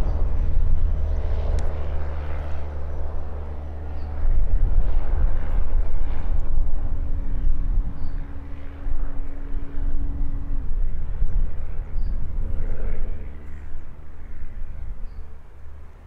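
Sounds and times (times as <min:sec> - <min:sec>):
loud uneven low rumble: 0:00.0 - 0:16.0
model plane motor humming: 0:00.0 - 0:16.0.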